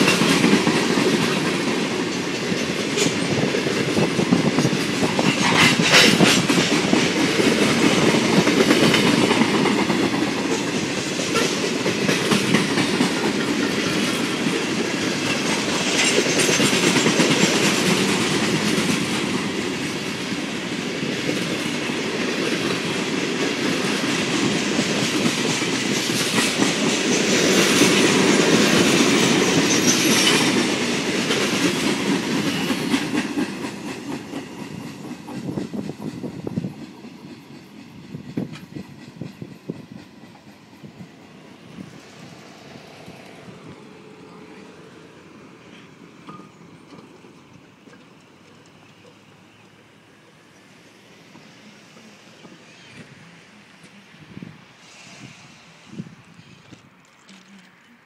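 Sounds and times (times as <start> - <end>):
wheels clacking over rail joints: 0.0 - 50.6
freight train rumbling past: 0.0 - 58.0.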